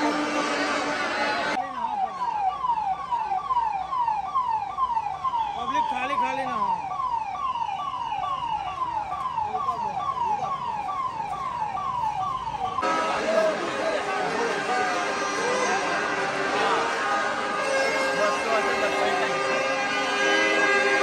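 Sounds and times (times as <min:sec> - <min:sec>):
electronic siren sweeping: 0:00.0 - 0:21.0.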